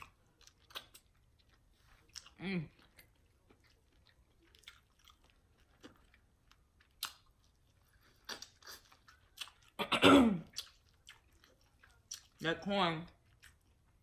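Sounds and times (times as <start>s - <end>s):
wet chewing and lip smacks: 0.0s - 9.8s, 10.4s - 14.0s.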